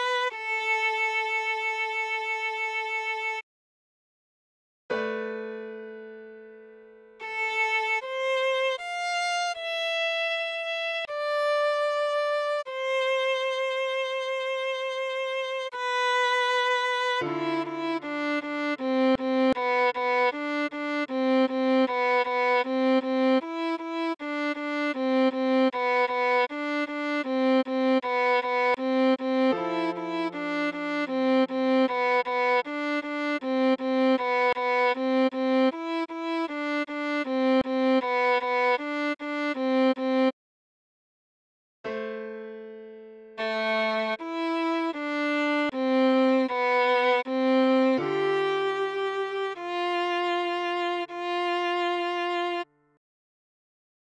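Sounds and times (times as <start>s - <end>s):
viola playing a melody: 0.0s - 3.4s, 7.2s - 40.4s, 43.3s - 53.0s.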